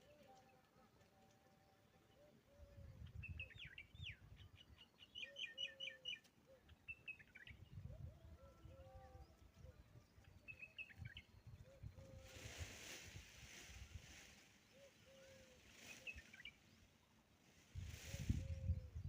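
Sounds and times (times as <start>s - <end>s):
faint bird calls: 0.0s - 12.7s, 14.3s - 17.0s.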